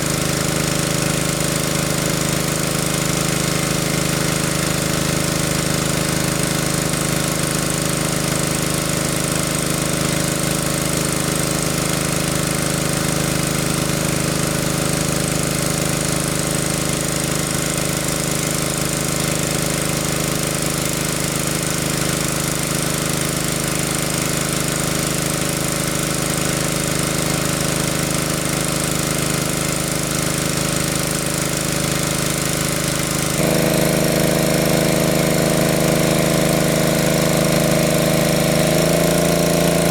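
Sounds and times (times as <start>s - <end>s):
water pump engine running: 0.0s - 39.9s.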